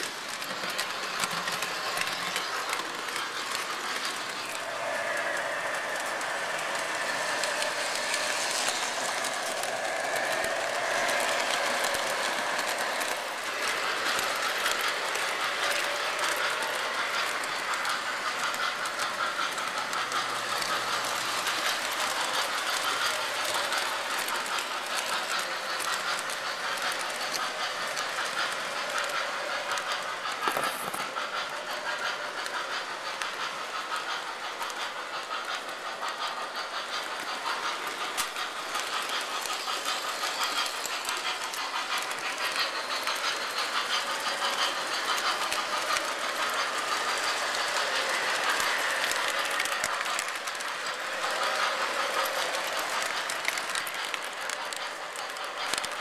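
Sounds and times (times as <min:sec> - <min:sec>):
model train motors whirring: 0:00.0 - 0:56.0.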